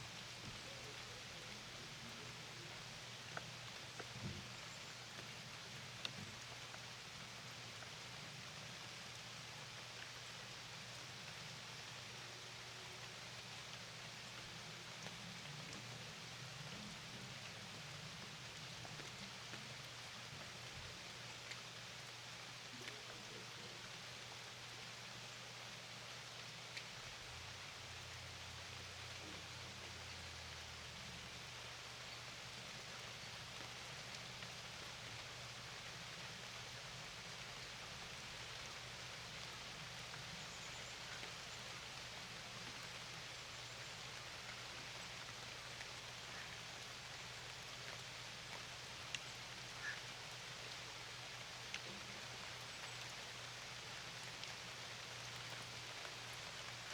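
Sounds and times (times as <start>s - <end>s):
rain falling on a lake: 0.0s - 56.9s.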